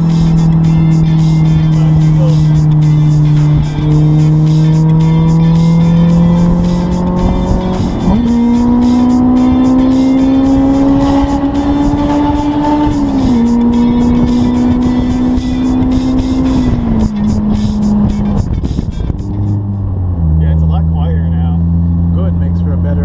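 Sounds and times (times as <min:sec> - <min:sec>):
car engine revving high: 0:00.0 - 0:23.0.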